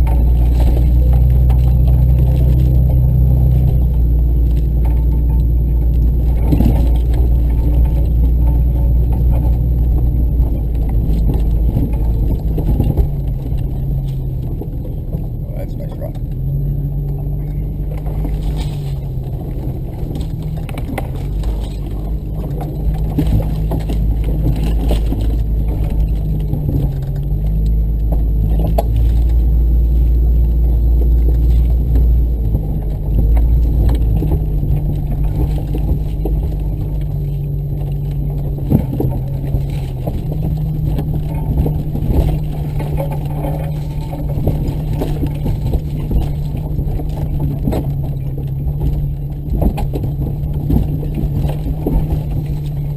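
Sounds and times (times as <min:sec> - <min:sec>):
knocks and rattles: 0:00.0 - 0:52.9
vehicle engine rumbling: 0:00.0 - 0:52.9.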